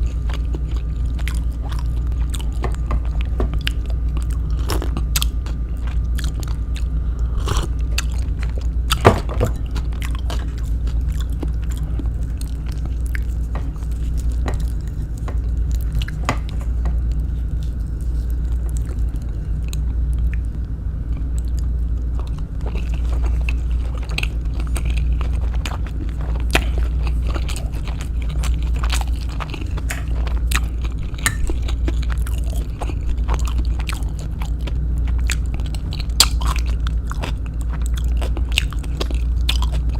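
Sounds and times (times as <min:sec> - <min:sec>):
crisp crunches of chewing: 0:00.0 - 0:39.9
steady low hum: 0:00.0 - 0:39.9.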